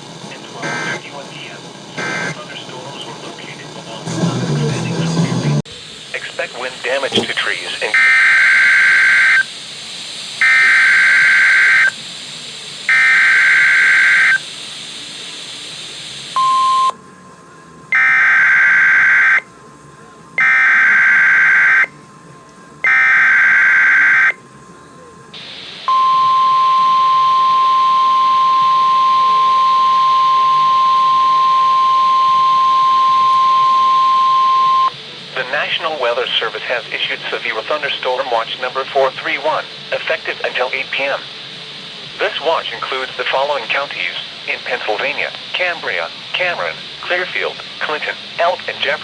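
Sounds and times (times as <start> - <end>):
steady warning alarm tone: 0.6 - 1.2, 2.0 - 2.4, 6.0 - 9.7, 10.3 - 12.0, 12.8 - 15.0, 15.8 - 49.0.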